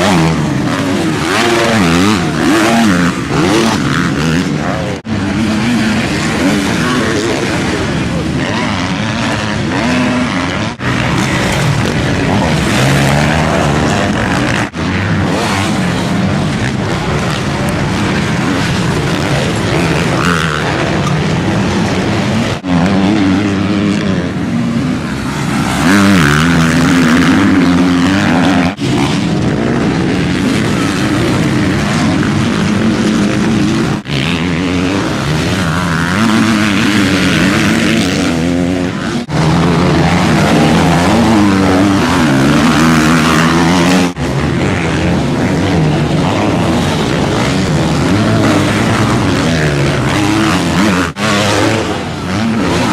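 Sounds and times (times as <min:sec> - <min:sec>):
motocross bike engines revving: 0:00.0 - 0:52.9.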